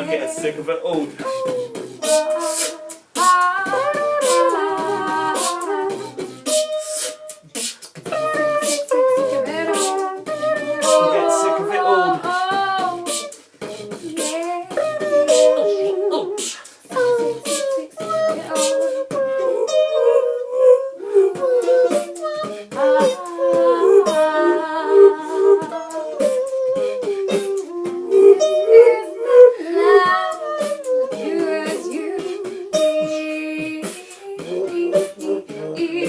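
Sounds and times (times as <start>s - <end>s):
vocal beatboxing: 0.0s - 36.0s
hummed melody: 1.2s - 36.0s.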